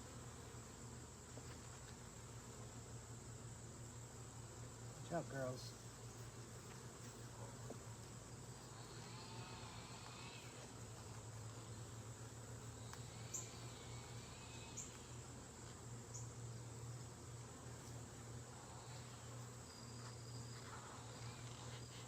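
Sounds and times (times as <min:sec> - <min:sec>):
honeybees humming: 0:00.0 - 0:22.0.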